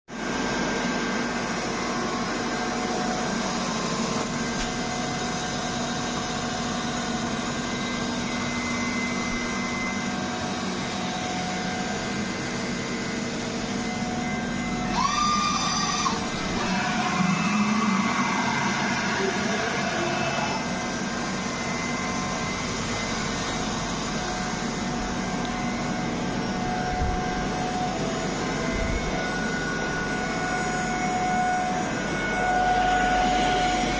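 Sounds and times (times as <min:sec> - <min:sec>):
milling machine humming and whining: 0:00.1 - 0:33.9.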